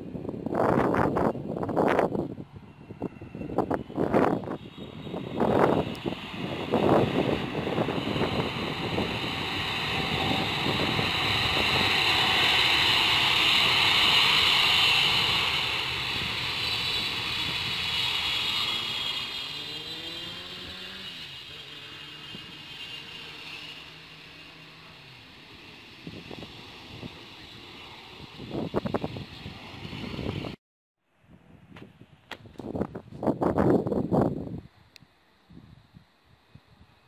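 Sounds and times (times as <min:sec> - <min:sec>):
jet engines roaring with fan whine: 0:00.0 - 0:30.6
wind gusts on microphone: 0:00.0 - 0:30.6, 0:31.2 - 0:37.0.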